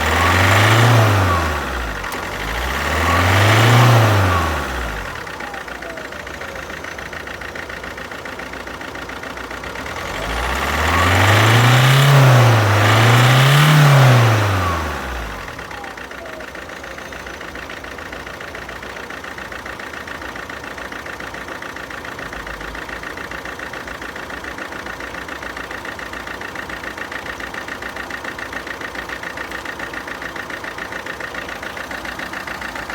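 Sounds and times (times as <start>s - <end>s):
diesel engine idling and revving: 0.0s - 32.9s.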